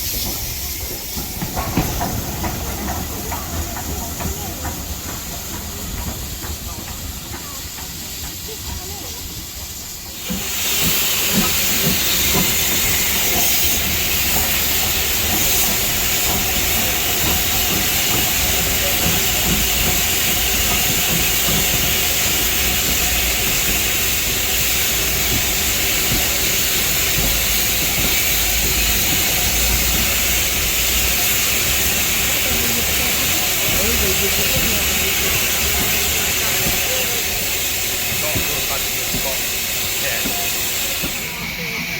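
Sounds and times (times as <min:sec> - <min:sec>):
steam venting hiss: 0:00.0 - 0:41.9.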